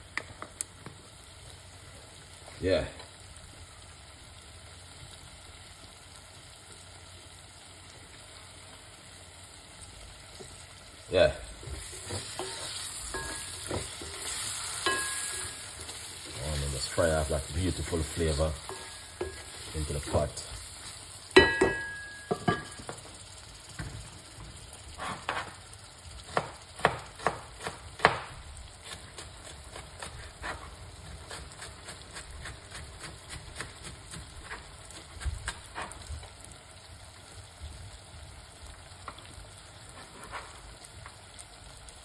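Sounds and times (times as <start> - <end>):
vegetables sizzling in a pot: 0.0 - 42.0.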